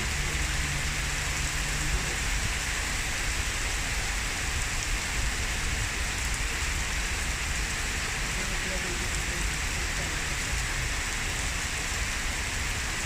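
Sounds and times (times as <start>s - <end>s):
heavy rain splashing on surfaces: 0.0s - 13.0s.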